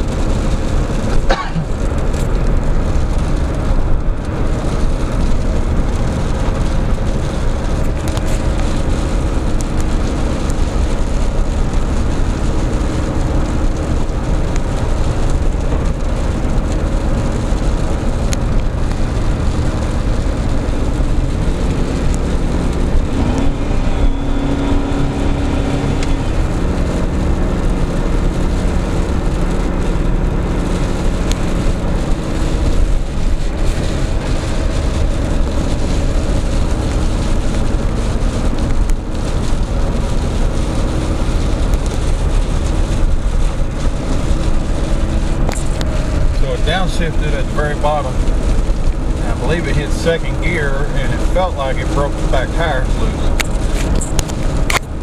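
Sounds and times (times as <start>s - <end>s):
car engine drone from inside: 0.0s - 55.0s
road noise: 0.0s - 55.0s.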